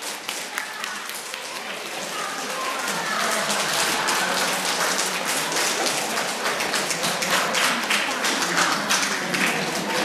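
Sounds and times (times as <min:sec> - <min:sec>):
audience applauding: 0:00.0 - 0:10.0
crowd voices: 0:00.0 - 0:10.0.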